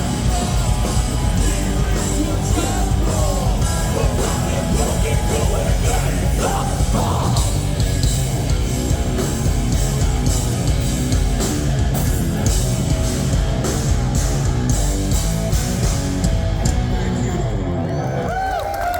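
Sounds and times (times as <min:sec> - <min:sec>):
live rock band playing: 0:00.0 - 0:17.9.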